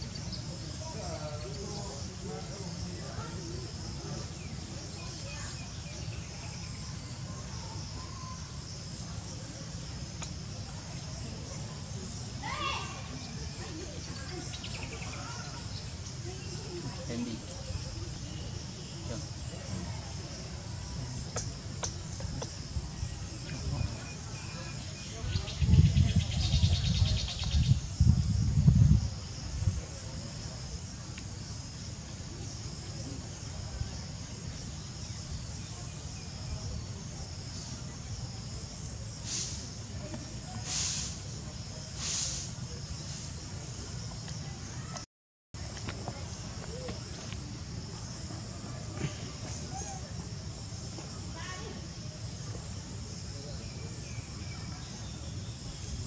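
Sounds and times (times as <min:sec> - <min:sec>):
high-pitched insect chorus: 0:00.0 - 0:45.0, 0:45.6 - 0:56.0.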